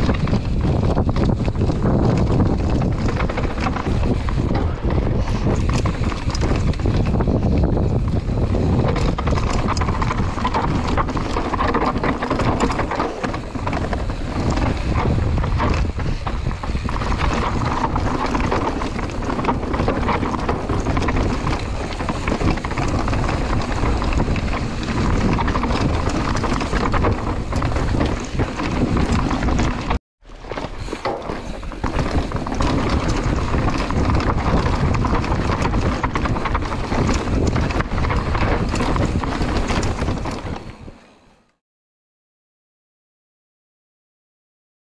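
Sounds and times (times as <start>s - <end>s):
wind buffeting microphone: 0.0s - 41.0s
bike tyres rumbling over rocks: 0.0s - 41.1s
bike rattling: 0.0s - 41.4s.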